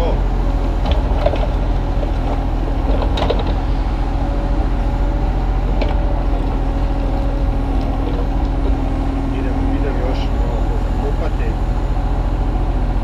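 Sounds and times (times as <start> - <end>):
excavator diesel engine running: 0.0 - 13.0
hydraulic whine: 0.0 - 13.0.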